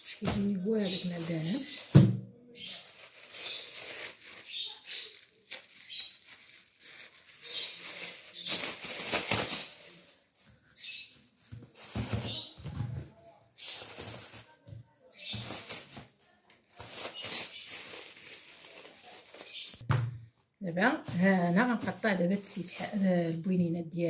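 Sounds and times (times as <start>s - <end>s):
plastic bag rustling and crinkling: 0.0s - 19.8s, 21.0s - 23.5s.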